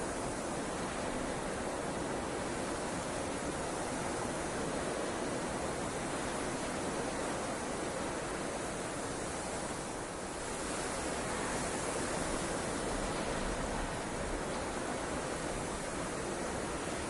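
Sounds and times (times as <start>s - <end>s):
rushing blizzard wind: 0.0s - 17.0s.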